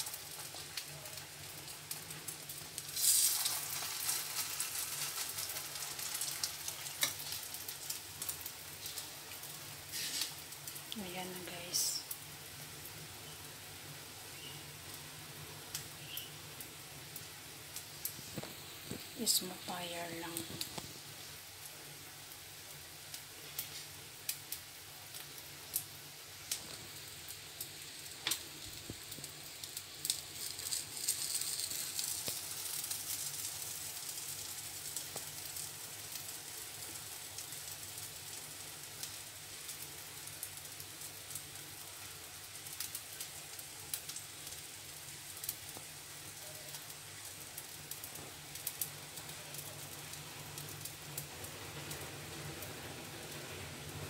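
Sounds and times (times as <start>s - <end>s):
crackling pops: 0.0s - 12.2s, 17.2s - 21.2s, 23.0s - 37.7s, 38.3s - 44.6s, 45.3s - 52.7s
food sizzling in oil: 0.0s - 54.0s.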